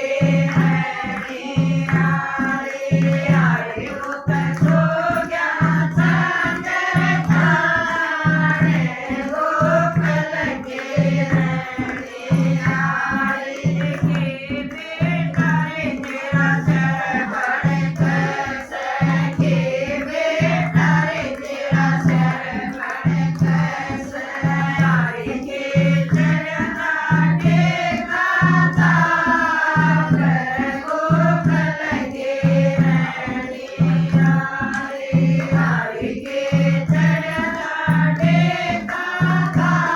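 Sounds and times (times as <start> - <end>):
group call-and-response singing: 0.0 - 39.9
hand drum beat: 0.0 - 39.9.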